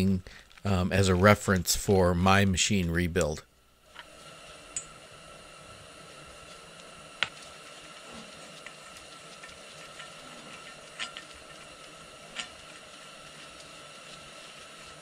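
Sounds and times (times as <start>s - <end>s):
room hum with faint whine: 0.0s - 15.0s.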